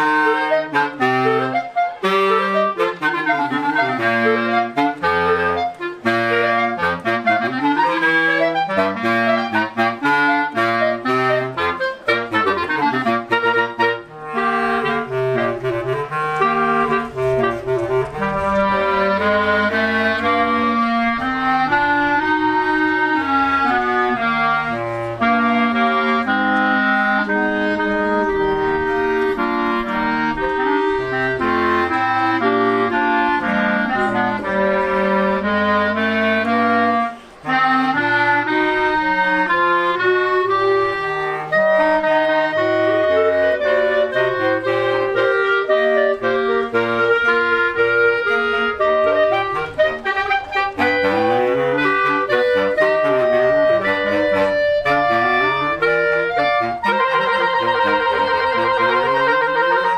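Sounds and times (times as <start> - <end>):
bass clarinet line: 0.0 - 59.9
clarinet melody: 0.0 - 59.9.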